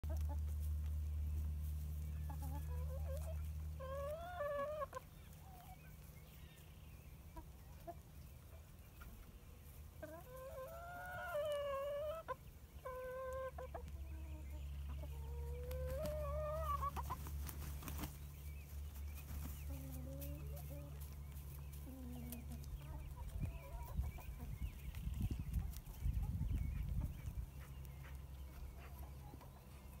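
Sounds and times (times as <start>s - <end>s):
hens clucking and calling: 0.0s - 30.0s.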